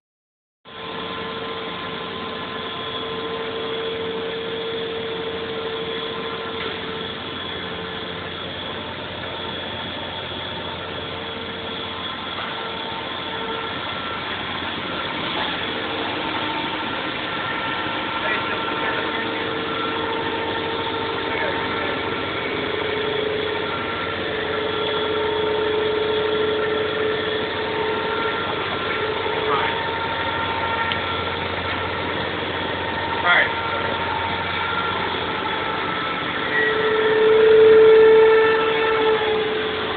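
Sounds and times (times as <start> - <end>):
machinery humming: 0.7 - 39.9.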